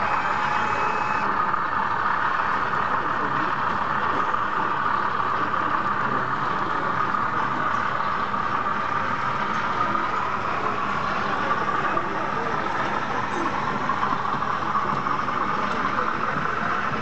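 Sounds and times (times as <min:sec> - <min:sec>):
busy exhibition hall hiss: 0:00.0 - 0:17.0.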